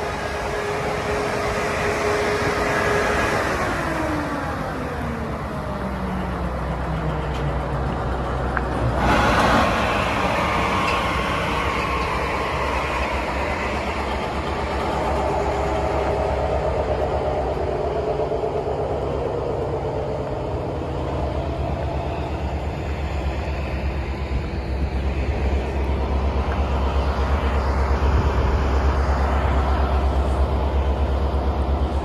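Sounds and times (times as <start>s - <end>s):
low hum: 0.0s - 32.0s
train passing: 0.0s - 32.0s.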